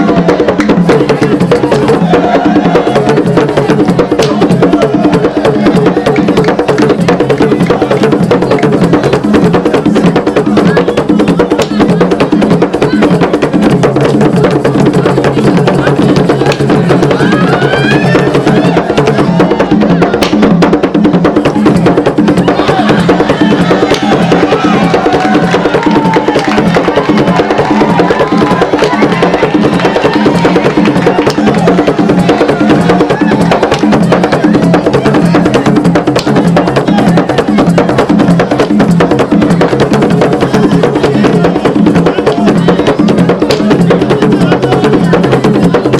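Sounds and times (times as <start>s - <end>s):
fast drumming: 0.0s - 45.9s.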